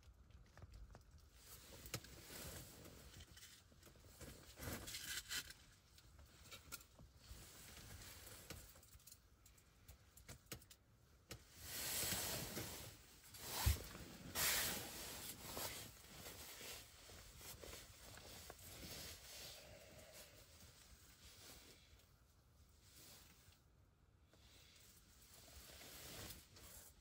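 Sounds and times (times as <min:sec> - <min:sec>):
faint rustling and handling noise: 0:00.0 - 0:27.0.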